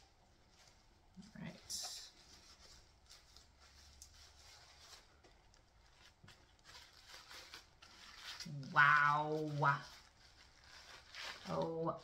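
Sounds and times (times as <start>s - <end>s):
soft rustles of doll's coat: 0.0s - 12.0s.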